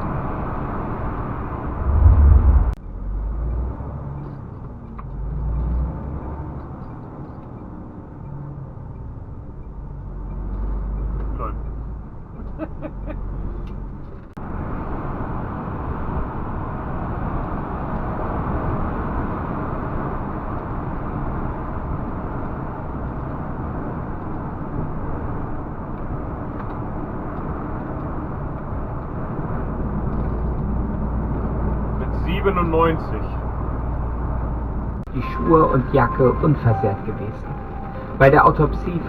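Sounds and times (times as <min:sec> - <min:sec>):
truck cab driving rumble: 0:00.0 - 0:39.0.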